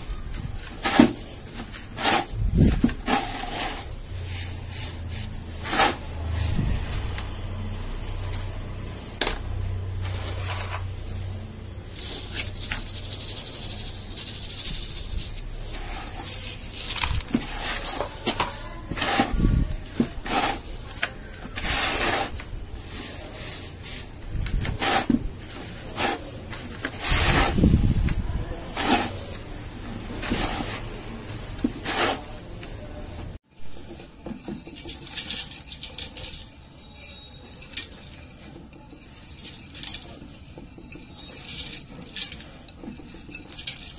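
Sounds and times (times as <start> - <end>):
sand sifted through a sieve: 0.0 - 36.6
sand crumbling in a clay pot: 0.0 - 43.9.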